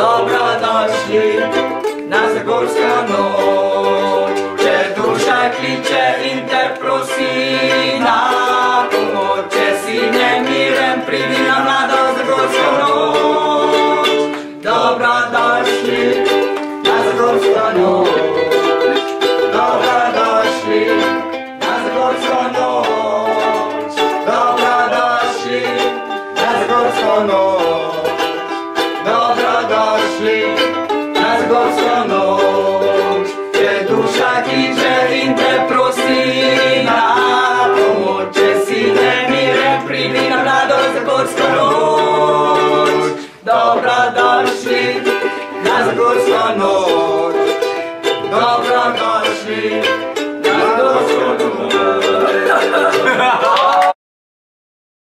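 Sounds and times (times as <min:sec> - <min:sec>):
strummed ukulele: 0:00.0 - 0:54.0
voices singing along: 0:00.0 - 0:54.0.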